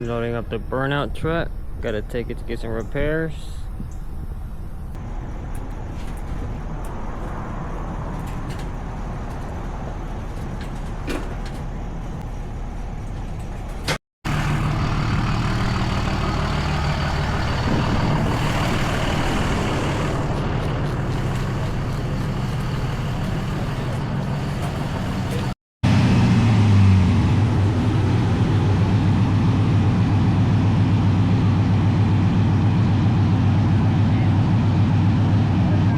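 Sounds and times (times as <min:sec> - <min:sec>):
strong low hum: 0:00.0 - 0:11.0, 0:11.7 - 0:35.9
truck engine running: 0:00.0 - 0:35.9.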